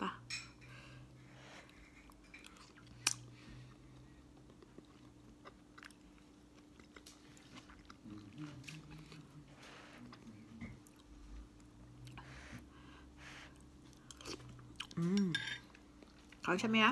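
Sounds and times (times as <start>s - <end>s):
faint steady hum: 0.0s - 16.9s
person chewing soft food: 1.0s - 16.4s.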